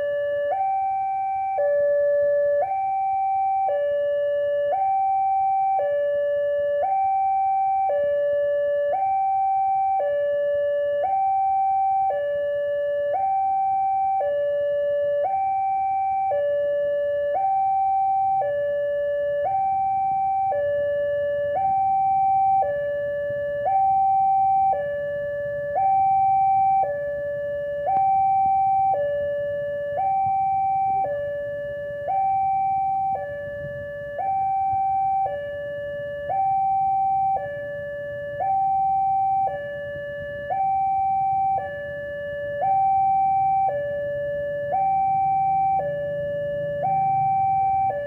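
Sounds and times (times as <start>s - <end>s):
two-tone level crossing alarm: 0.0s - 48.0s.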